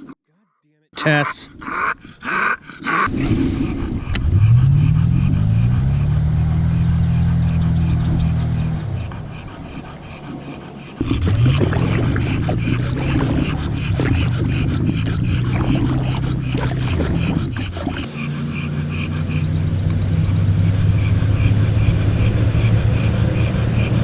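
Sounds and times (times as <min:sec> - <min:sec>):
car engine revving: 0:03.1 - 0:09.6, 0:11.0 - 0:24.0.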